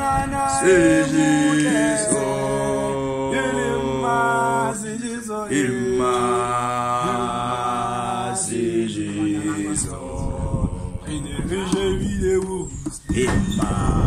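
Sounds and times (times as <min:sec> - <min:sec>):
men singing a cappella in harmony: 0:00.0 - 0:14.0.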